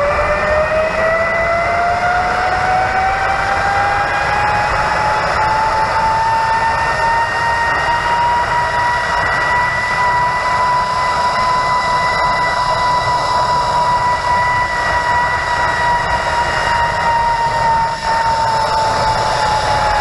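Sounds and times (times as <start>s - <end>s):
wind rushing over microphone: 0.0s - 20.0s
zip-line pulleys whining on cable: 0.0s - 20.0s.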